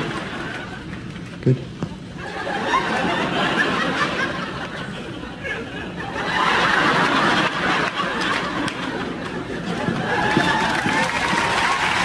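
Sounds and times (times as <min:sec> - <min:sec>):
people laughing and chattering: 0:00.0 - 0:12.0.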